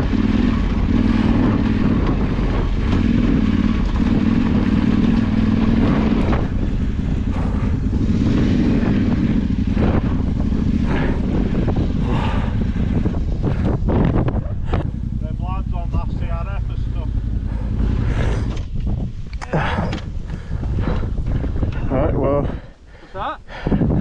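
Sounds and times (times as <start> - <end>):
motorcycle engine running: 0.0 - 23.1.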